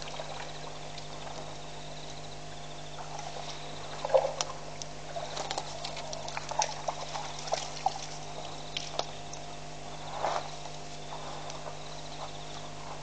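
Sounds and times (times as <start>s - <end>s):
elephants splashing in water and mud: 0.0s - 1.8s, 2.9s - 13.0s
steady low hum: 0.0s - 13.0s.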